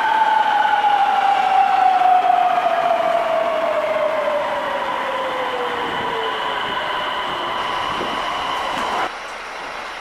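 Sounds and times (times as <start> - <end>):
electric train whine and rumble: 0.0 - 10.0
street noise: 0.0 - 10.0.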